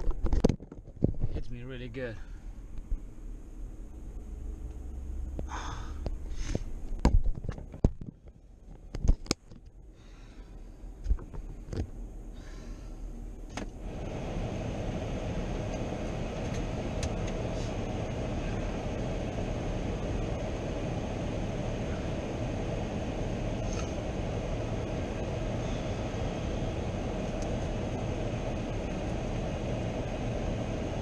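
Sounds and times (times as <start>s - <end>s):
vehicle running noise: 0.0s - 31.0s.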